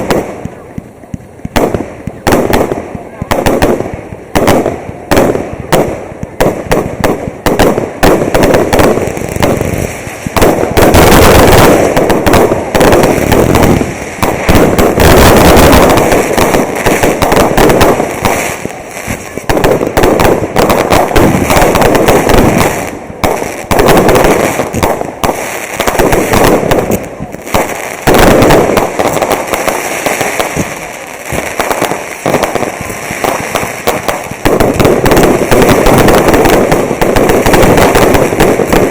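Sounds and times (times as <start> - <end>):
firework bangs and crackling: 0.0 - 38.9.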